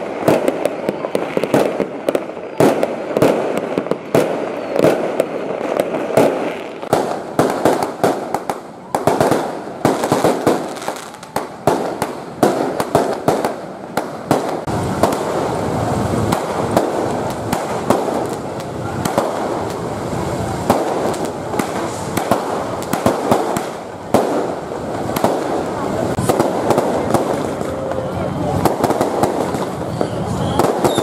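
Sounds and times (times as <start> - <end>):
fireworks banging and crackling: 0.0 - 31.0.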